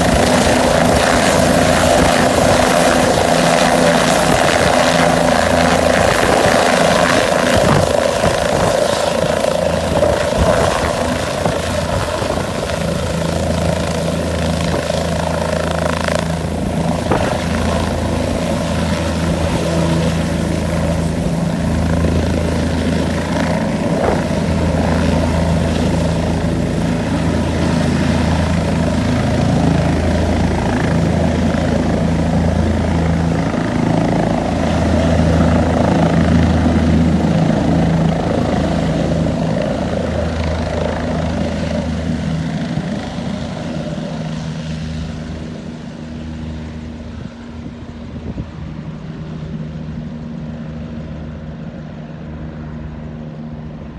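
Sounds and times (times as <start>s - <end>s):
helicopter rotor and turbine: 0.0s - 53.9s.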